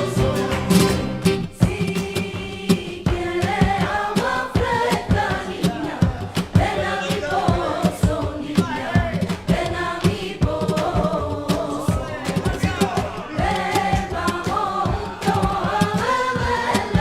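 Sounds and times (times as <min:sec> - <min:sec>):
group singing carol: 0:00.0 - 0:17.0
quick percussive beat: 0:00.0 - 0:17.0.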